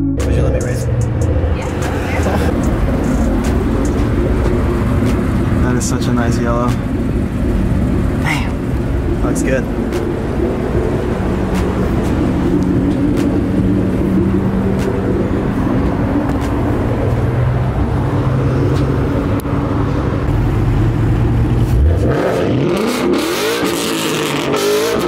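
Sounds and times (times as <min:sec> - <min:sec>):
car engine running and revving: 0:00.1 - 0:25.0.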